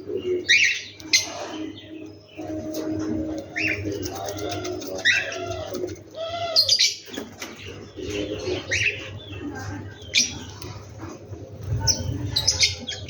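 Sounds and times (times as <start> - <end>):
birds cooing: 0.0 - 13.0.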